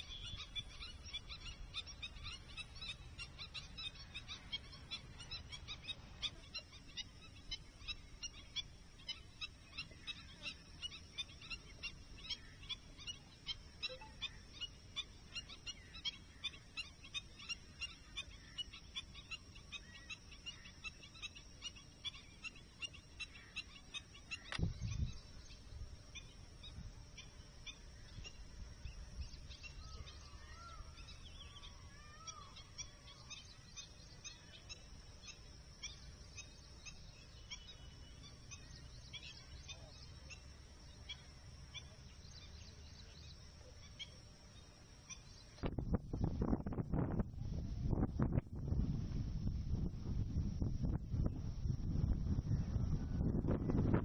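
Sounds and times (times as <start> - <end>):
birds chirping: 0.0 - 47.2.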